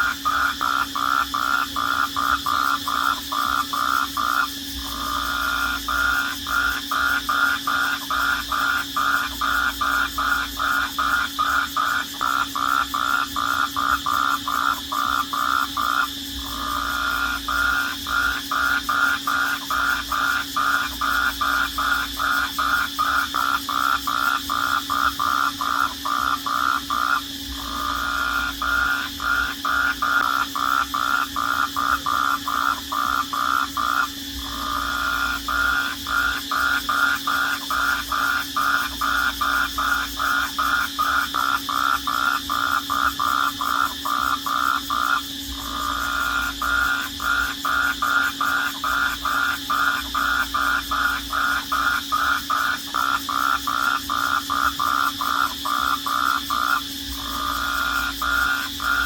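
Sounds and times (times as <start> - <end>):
crickets chirping: 0.0 - 59.0
high-pitched insect trill: 0.0 - 59.0.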